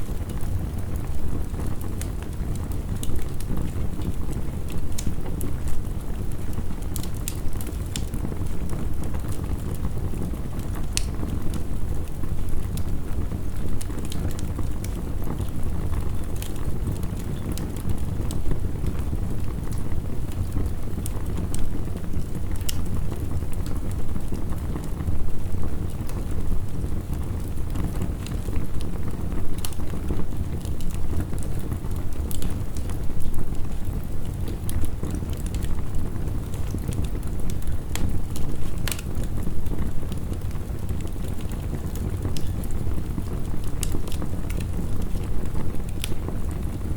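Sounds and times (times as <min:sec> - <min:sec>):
burning wood crackling and popping: 0:00.0 - 0:46.9.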